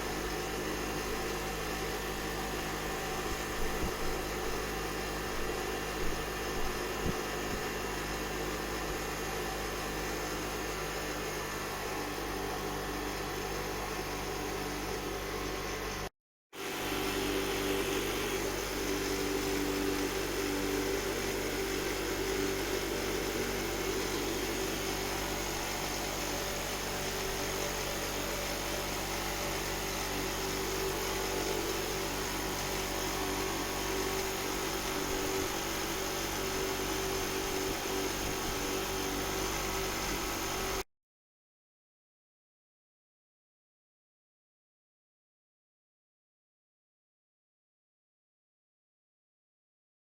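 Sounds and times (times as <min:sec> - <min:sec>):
small power tool humming: 0:00.0 - 0:40.8.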